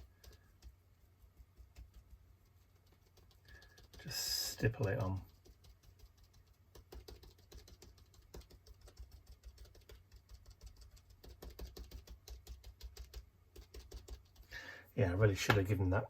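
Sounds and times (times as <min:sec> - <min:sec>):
paintbrush tapping on paper: 0:00.0 - 0:14.5, 0:15.4 - 0:15.8.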